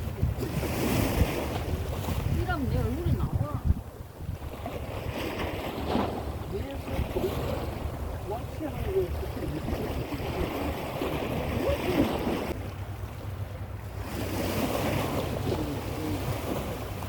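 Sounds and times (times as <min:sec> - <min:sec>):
sea waves: 0:00.0 - 0:17.0
wind buffeting microphone: 0:00.0 - 0:17.0.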